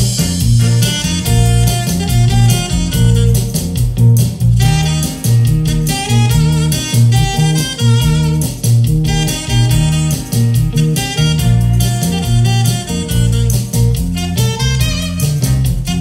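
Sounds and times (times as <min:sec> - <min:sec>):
bass and beat: 0:00.0 - 0:16.0.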